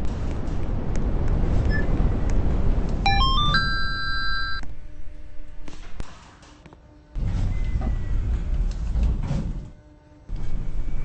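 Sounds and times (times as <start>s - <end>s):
lift machinery rumble and hum: 0.0s - 11.0s.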